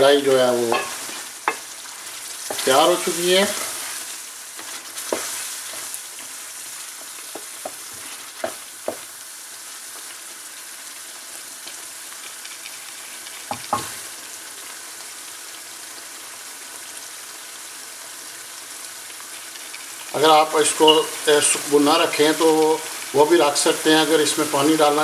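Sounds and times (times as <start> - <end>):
meat sizzling in a metal pot: 0.0 - 25.0.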